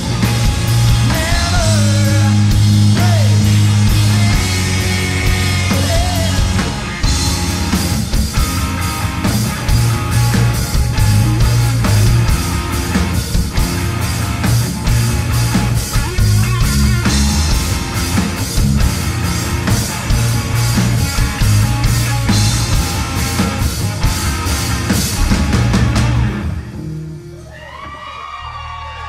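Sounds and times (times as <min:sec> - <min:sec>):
driving drum kit: 0:00.0 - 0:27.3
heavy bass: 0:00.0 - 0:27.4
distorted electric guitar: 0:00.0 - 0:27.5.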